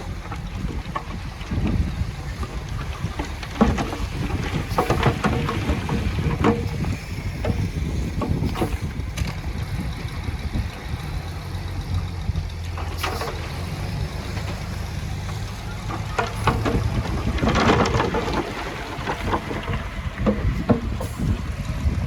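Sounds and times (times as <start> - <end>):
diesel engine running: 0.0 - 22.0
soil and stone clattering: 0.0 - 22.0.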